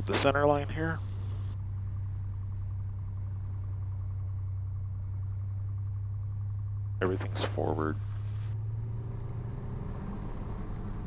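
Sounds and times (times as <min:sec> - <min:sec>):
airplane engine droning in cabin: 0:00.0 - 0:11.0.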